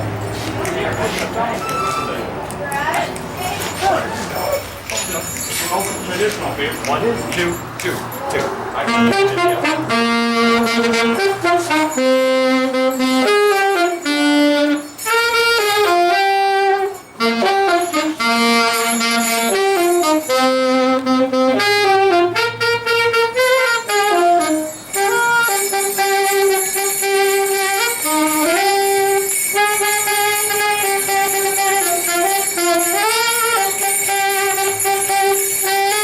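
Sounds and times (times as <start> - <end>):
saxophone-like wind instrument melody: 0.0 - 2.4, 8.6 - 36.0.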